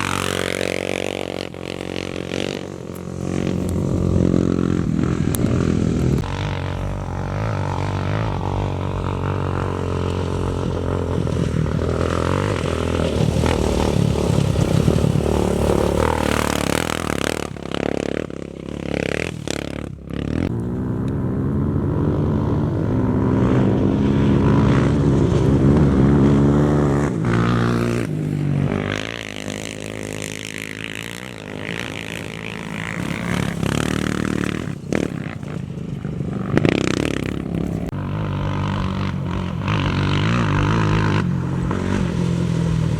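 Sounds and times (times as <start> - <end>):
off-road racing engines revving: 0.0 - 42.9.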